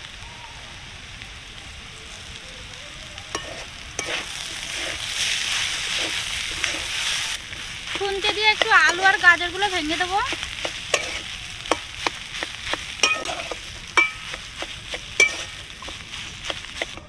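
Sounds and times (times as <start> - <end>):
vegetables sizzling in a pan: 0.0 - 17.0
spatula stirring and scraping: 3.3 - 17.0.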